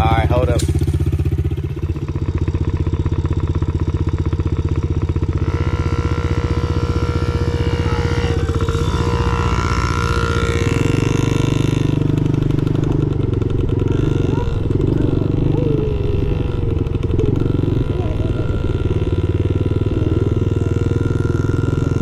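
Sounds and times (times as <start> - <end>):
dirt bike engine idling: 0.0 - 22.0
dirt bike revving past: 0.0 - 22.0.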